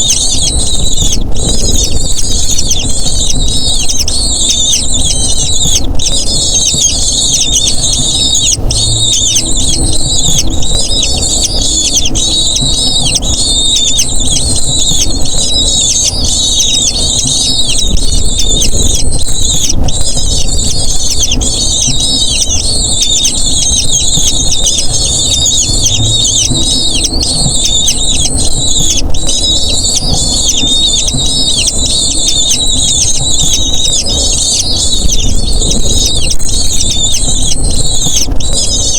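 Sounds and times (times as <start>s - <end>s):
birds squealing: 0.0s - 38.9s
steady low rumble: 0.0s - 38.9s.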